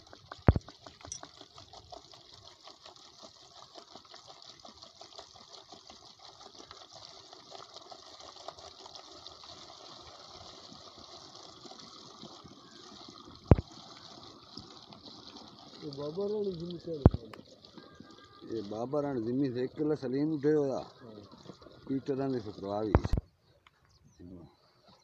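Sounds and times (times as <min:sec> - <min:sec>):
fuel trickling into plastic bottle: 0:00.0 - 0:23.9.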